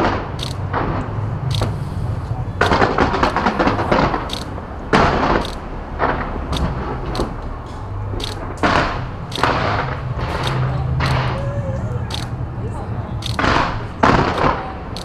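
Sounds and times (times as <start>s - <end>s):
sharp pops: 0.0s - 1.9s, 2.6s - 11.4s, 12.1s - 12.3s, 13.2s - 15.0s
fireworks booming and crackling: 0.0s - 11.5s, 13.2s - 15.0s.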